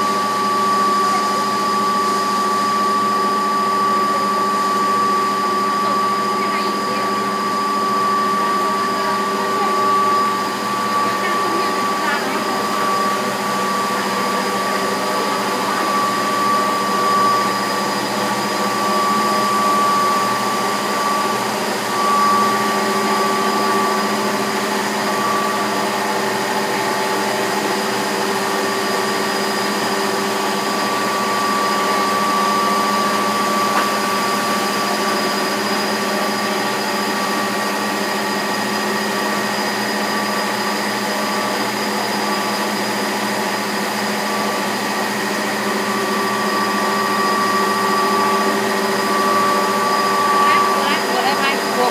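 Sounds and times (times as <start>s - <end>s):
high machine whine: 0.0s - 51.9s
machinery steady drone: 0.0s - 51.9s.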